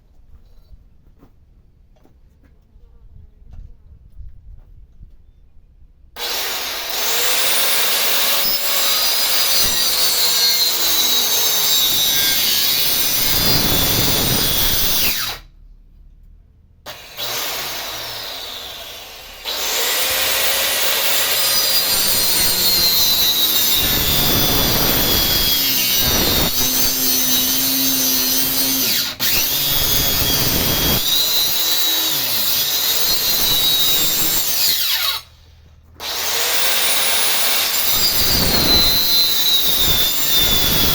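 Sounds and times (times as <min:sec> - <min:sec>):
power tool cutting wood: 0:06.2 - 0:15.5, 0:16.9 - 0:35.4, 0:36.0 - 0:40.9.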